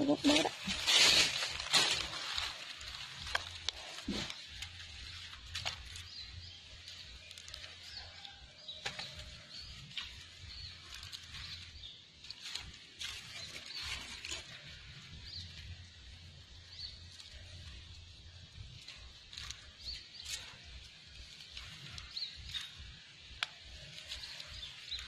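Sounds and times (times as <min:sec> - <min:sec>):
hands digging through dry leaves: 0:00.0 - 0:25.0.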